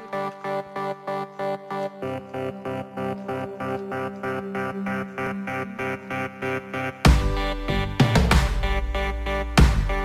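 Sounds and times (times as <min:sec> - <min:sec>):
electronic music with pulsing synth: 0:00.0 - 0:10.0.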